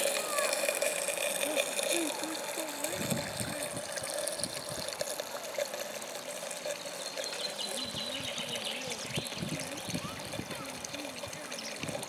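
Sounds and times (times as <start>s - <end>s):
faint voices: 0.0s - 12.0s
water trickling and splashing: 0.0s - 12.0s.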